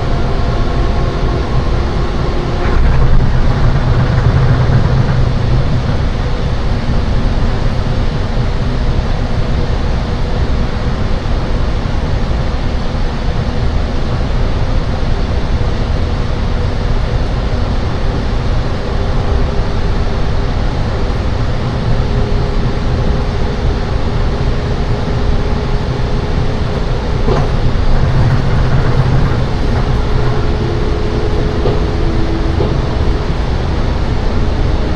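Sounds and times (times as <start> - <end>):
faint steady whine: 0.0 - 34.9
train running rumble: 0.0 - 34.9.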